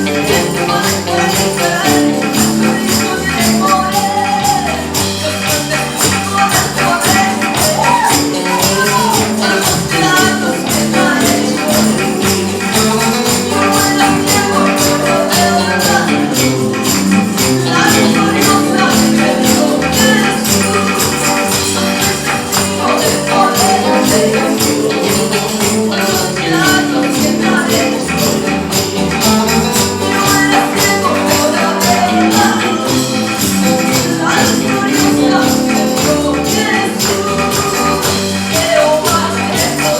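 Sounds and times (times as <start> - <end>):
band music with fast percussion: 0.0 - 39.9.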